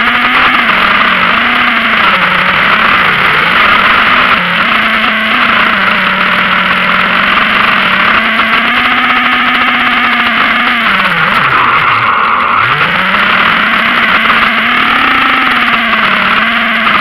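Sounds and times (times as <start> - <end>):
model aircraft motor droning: 0.0 - 17.0.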